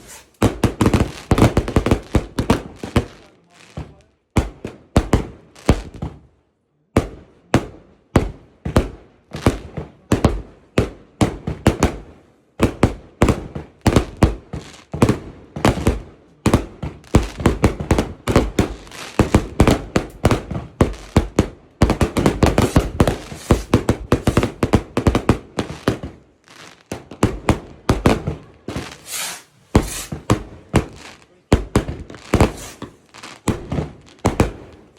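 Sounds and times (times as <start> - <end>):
fireworks sharp bangs: 0.0 - 6.2, 6.9 - 34.9.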